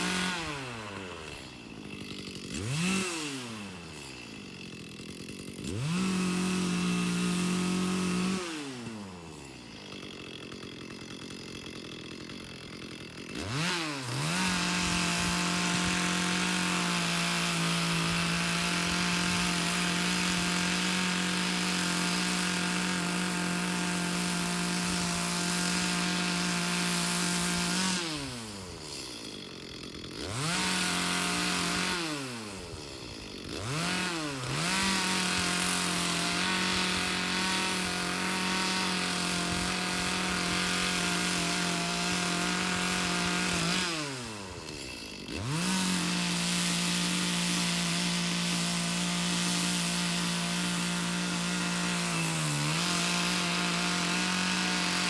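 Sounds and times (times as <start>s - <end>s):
chainsaw cutting into log: 0.0s - 55.0s
chainsaw engine revving: 0.0s - 55.0s.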